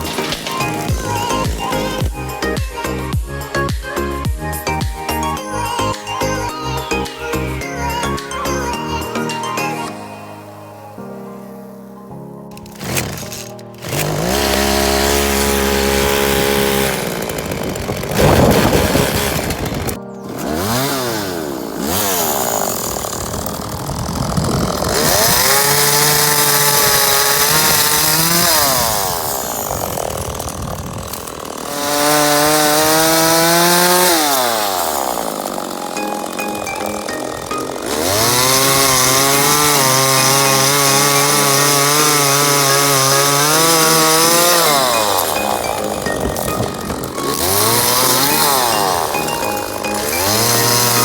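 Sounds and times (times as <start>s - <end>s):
chainsaw revving while cutting: 0.0s - 11.7s, 12.5s - 51.0s.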